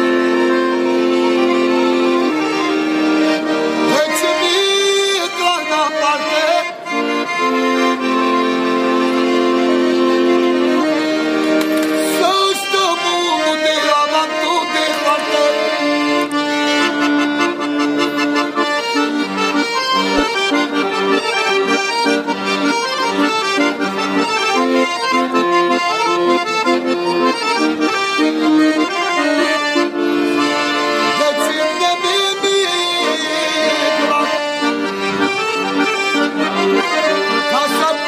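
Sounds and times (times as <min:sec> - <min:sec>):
accordion melody: 0:00.0 - 0:38.0.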